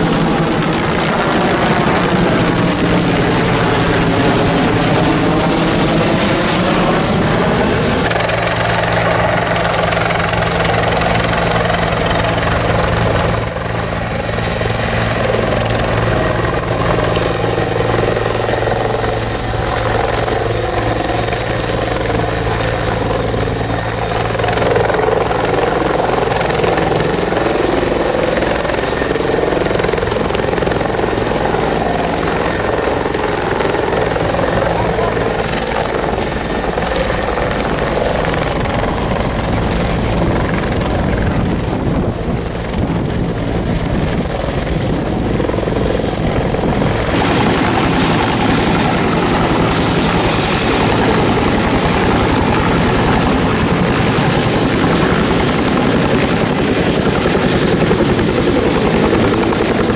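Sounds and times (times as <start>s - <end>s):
helicopter hovering and landing: 0.0s - 59.9s
helicopter passing overhead: 0.0s - 59.9s
high-pitched turbine whine: 0.0s - 59.9s.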